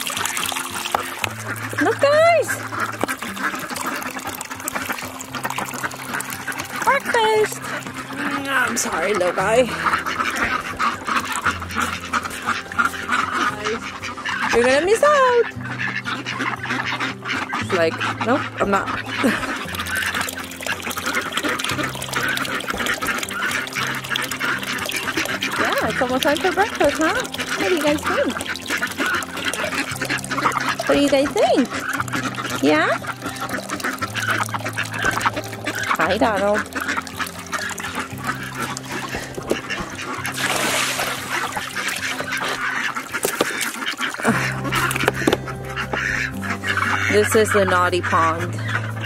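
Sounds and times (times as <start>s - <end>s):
ducks quacking: 0.0s - 49.0s
soft background music: 0.0s - 49.0s.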